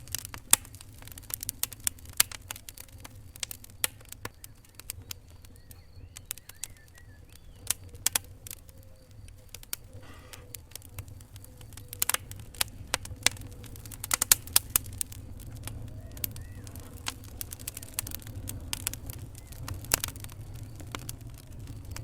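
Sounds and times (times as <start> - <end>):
low rumble of flames: 0.0 - 22.0
wood fire crackling and popping: 0.0 - 22.0.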